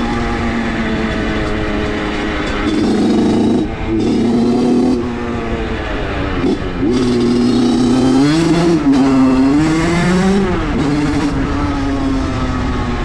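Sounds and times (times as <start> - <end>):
small motorcycle engine revving: 0.0 - 13.0.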